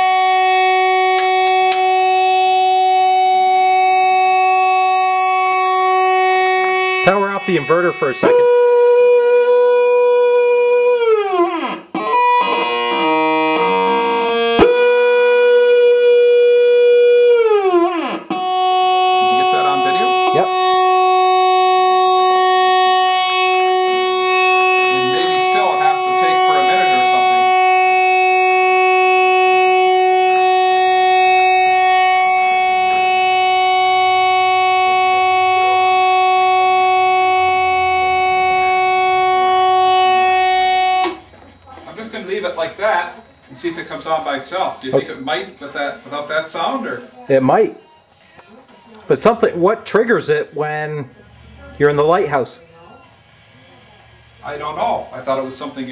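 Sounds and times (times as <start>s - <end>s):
fog horn buzzy tone: 0.0s - 47.2s, 49.2s - 55.9s.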